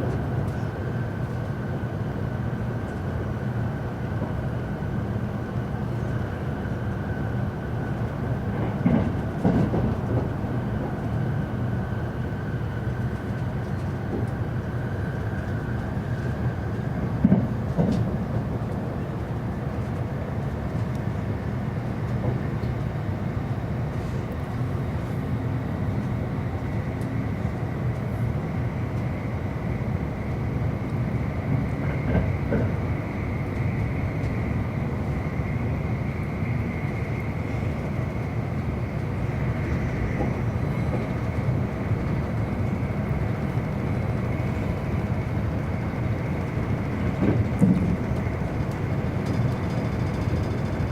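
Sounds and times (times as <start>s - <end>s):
thin train whine: 0.0s - 50.9s
train wheels rumbling on track: 0.0s - 50.9s.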